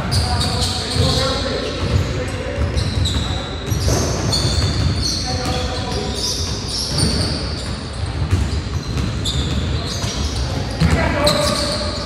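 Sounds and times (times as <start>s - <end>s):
sneakers squeaking: 0.0s - 12.0s.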